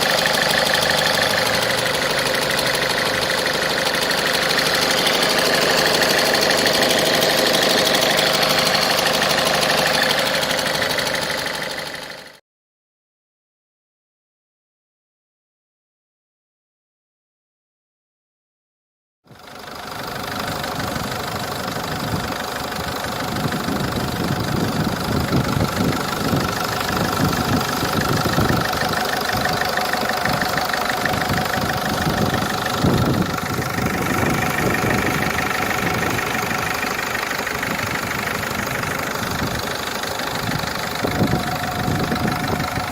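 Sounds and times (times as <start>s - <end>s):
diesel engine idling with knock: 0.0s - 12.4s, 19.3s - 42.9s.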